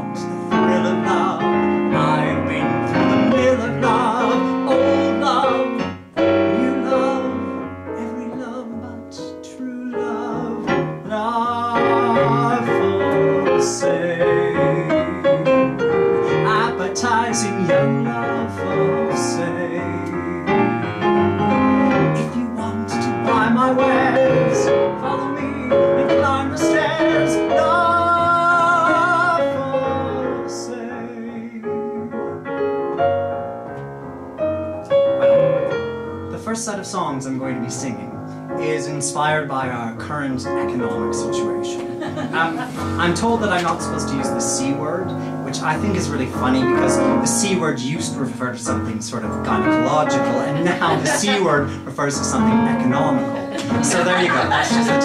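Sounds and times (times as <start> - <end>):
man singing with vibrato: 0.0 - 32.4, 38.6 - 55.0
piano accompaniment: 0.0 - 55.0.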